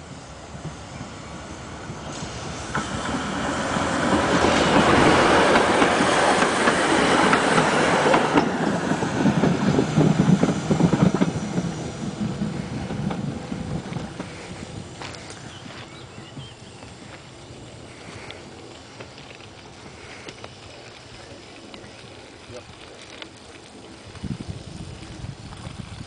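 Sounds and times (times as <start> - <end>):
tram rolling past: 0.0 - 26.0
wheels clattering over rails: 2.0 - 26.0.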